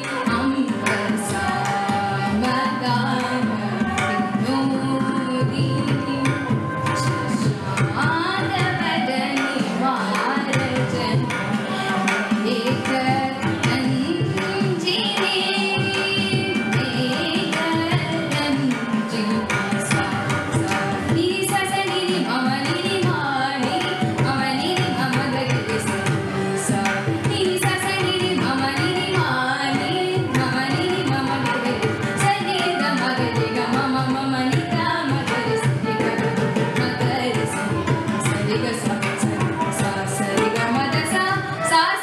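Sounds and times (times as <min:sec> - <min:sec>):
tanpura drone: 0:00.0 - 0:42.0
woman singing into microphone: 0:00.0 - 0:42.0.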